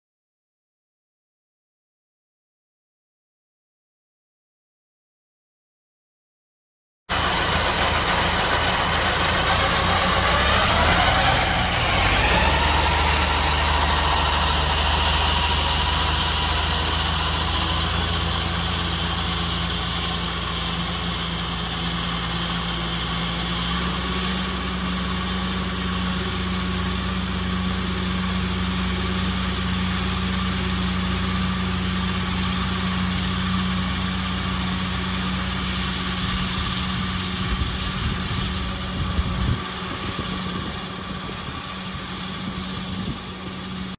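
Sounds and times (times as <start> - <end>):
mower whine: 7.1 - 43.9
tractor engine running: 7.1 - 43.9.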